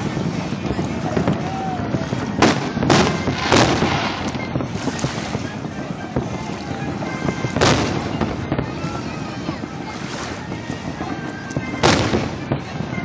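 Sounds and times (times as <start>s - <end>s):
fireworks booming with echo: 0.0s - 13.0s.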